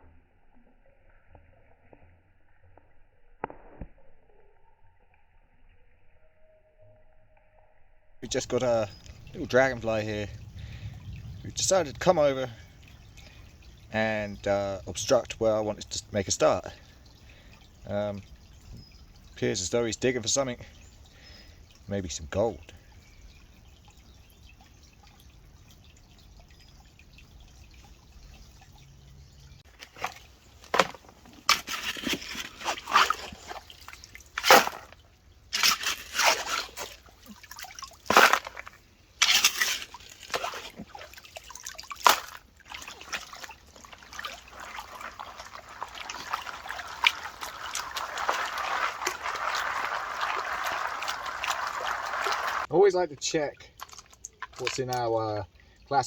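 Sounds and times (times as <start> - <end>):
water sloshing and splashing: 8.2 - 56.0
water trickling: 8.2 - 56.0.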